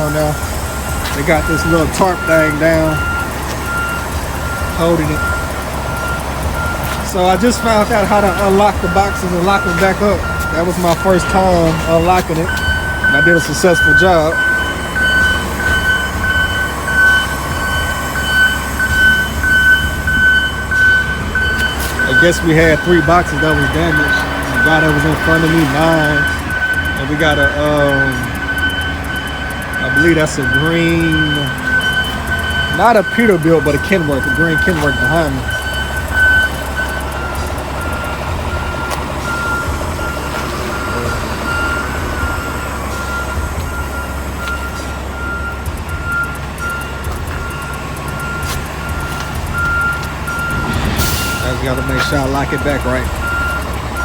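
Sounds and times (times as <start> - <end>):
diesel engine rumble: 0.0 - 54.0
vehicle backup alarm beeping: 0.0 - 54.0.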